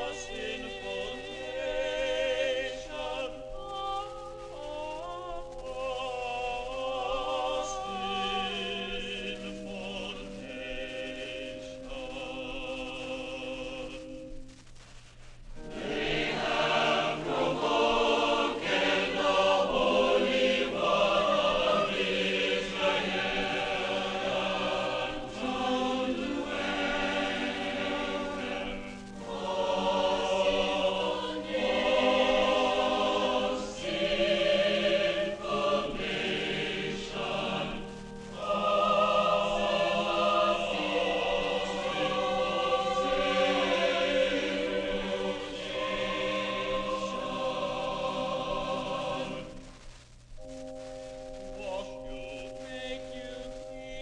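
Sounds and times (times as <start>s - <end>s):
choir singing: 0.0s - 14.2s, 15.6s - 49.7s, 51.5s - 54.0s.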